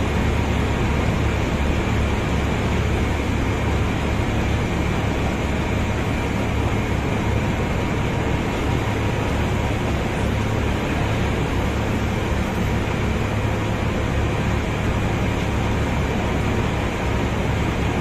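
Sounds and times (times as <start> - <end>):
machinery low drone: 0.0 - 18.0.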